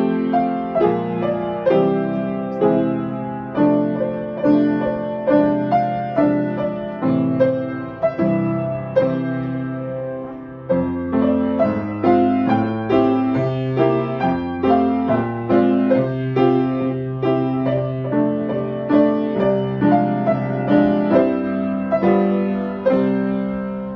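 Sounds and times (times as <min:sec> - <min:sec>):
low piano bass notes: 0:00.0 - 0:23.9
piano melody: 0:00.0 - 0:23.9.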